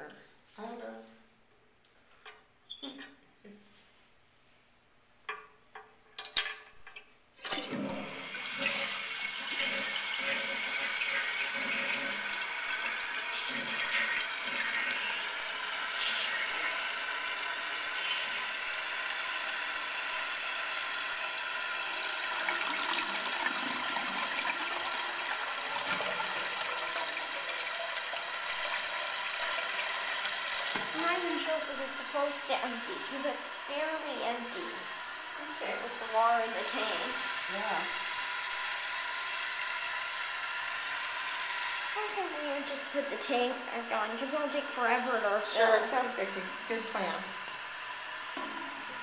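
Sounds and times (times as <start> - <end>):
toilet flushing: 7.4 - 49.0.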